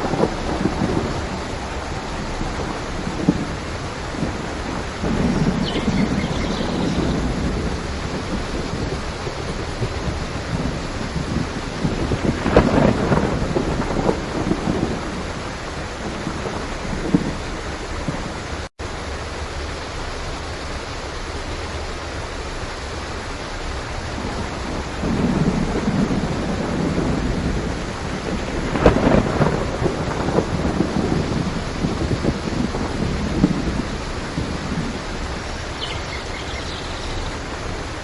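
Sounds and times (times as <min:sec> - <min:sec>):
rolling thunder: 0:00.0 - 0:18.6, 0:24.1 - 0:38.0
heavy rain: 0:00.0 - 0:38.0.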